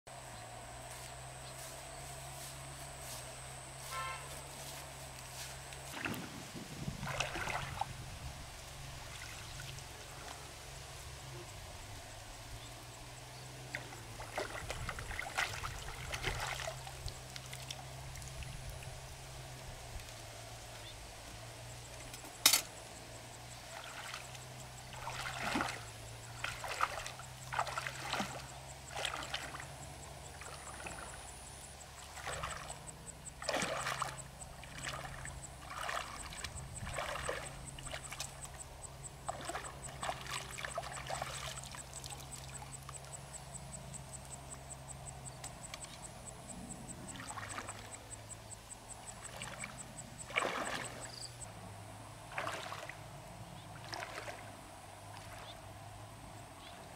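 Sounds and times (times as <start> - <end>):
wading and splashing in water: 0.1 - 56.9.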